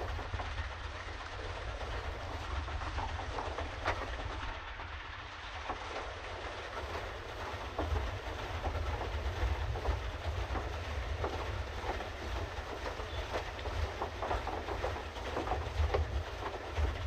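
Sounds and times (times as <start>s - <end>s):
paddle wheel clacks and ticks: 0.0s - 17.0s
pedal boat rumble: 0.0s - 17.0s.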